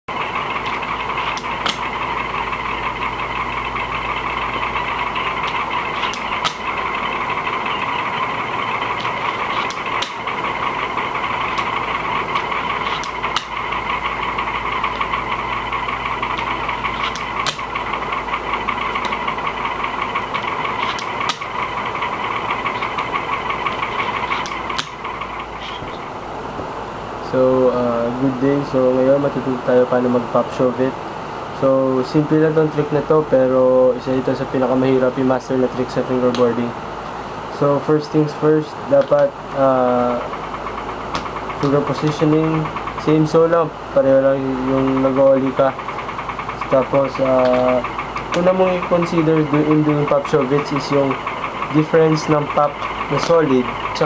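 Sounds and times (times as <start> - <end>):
loud steady mechanical hum: 0.0 - 54.0.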